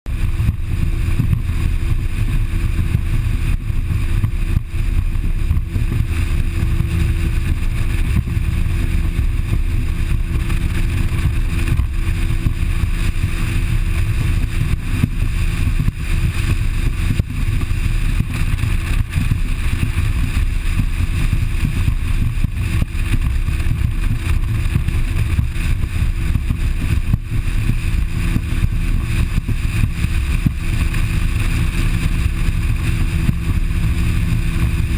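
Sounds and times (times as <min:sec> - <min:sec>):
boat motor drone: 0:00.1 - 0:34.9
wind buffeting microphone: 0:00.1 - 0:34.9.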